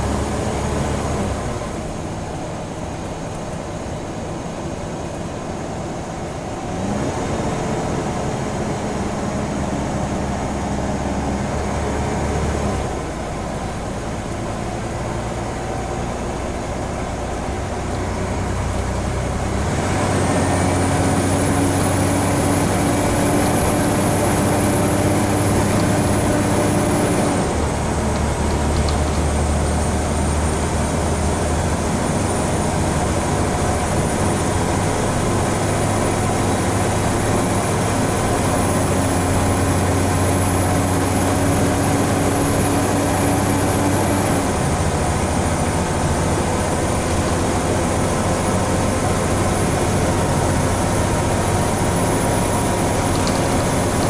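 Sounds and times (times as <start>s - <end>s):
bus diesel engine pulling under load: 0.0s - 54.0s.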